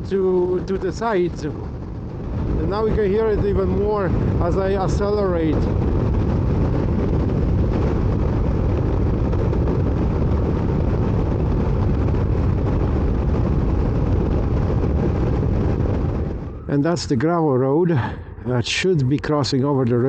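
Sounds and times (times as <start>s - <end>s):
wind rushing at highway speed: 0.0s - 20.0s.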